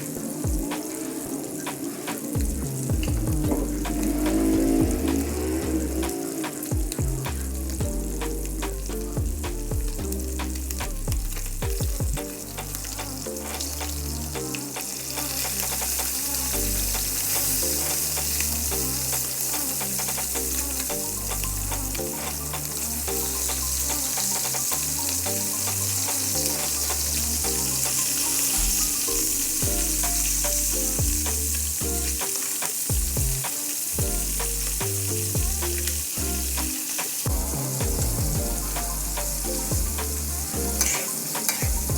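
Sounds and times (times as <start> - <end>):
food sizzling in pan: 0.0 - 2.9, 3.5 - 7.3, 12.3 - 41.9
background music with bass line: 0.0 - 41.9.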